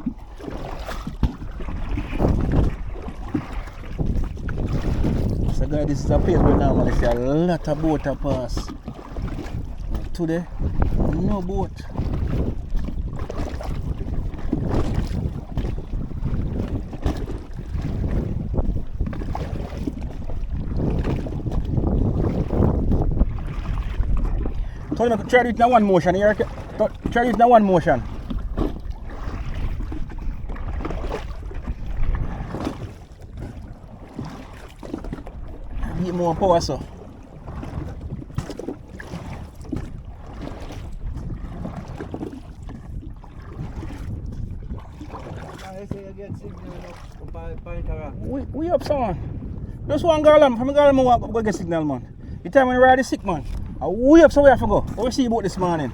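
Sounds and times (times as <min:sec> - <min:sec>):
hand paddling splashes: 0:00.0 - 0:47.3
water lapping against boat: 0:00.0 - 0:55.9
wind buffeting microphone: 0:00.0 - 0:55.9.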